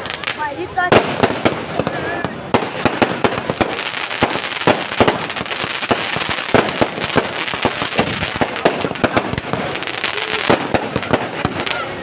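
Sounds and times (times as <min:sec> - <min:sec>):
firecrackers banging and crackling: 0:00.0 - 0:12.0.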